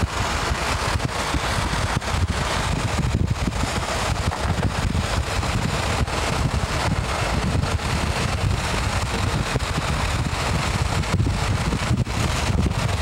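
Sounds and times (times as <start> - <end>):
road noise from moving vehicle: 0.0 - 13.0
wind buffeting microphone: 0.0 - 13.0.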